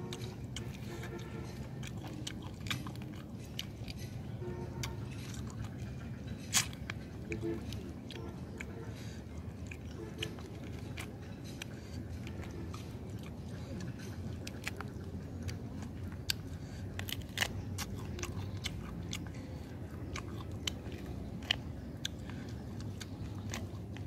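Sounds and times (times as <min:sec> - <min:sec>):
low steady background noise: 0:00.0 - 0:24.0
person chewing crisp food: 0:00.0 - 0:24.0.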